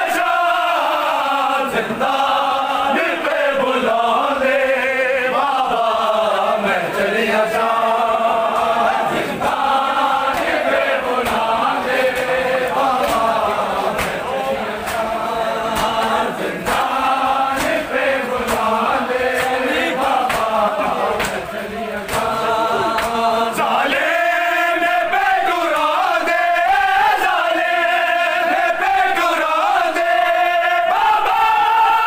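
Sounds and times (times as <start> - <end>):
rhythmic chest-beating slaps: 0.0 - 31.6
lead reciter voice: 0.0 - 32.0
men chanting a lament: 0.0 - 32.0.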